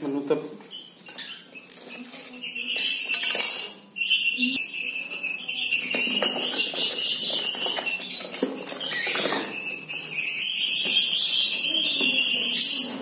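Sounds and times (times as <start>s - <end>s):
songbirds chirping and trilling: 0.6s - 13.0s.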